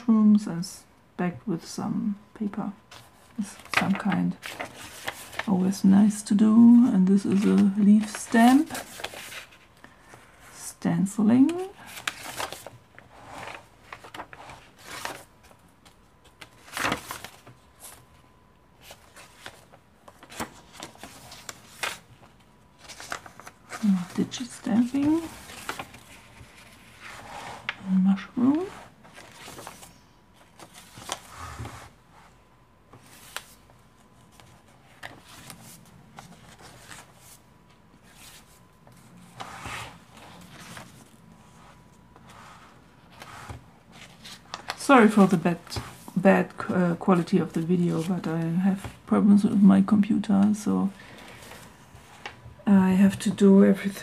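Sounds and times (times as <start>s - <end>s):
paper pages rustling: 2.9s - 5.8s, 7.1s - 10.5s, 11.5s - 18.2s, 18.8s - 32.0s, 32.9s - 49.1s, 50.4s - 52.4s.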